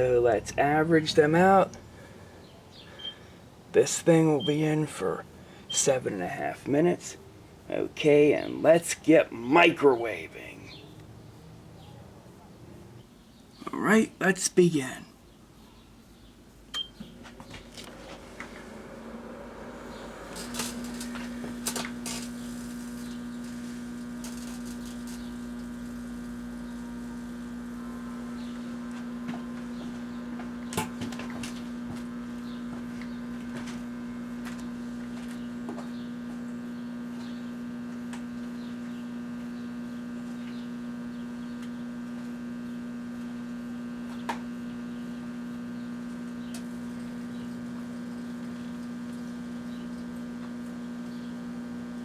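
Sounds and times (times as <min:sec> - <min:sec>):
microwave oven humming: 0:00.0 - 0:11.9, 0:16.3 - 0:52.0.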